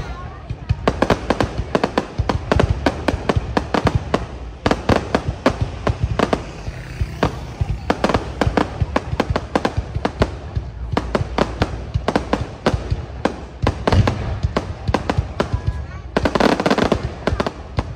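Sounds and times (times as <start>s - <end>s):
fireworks bangs and cracks: 0.0s - 17.9s.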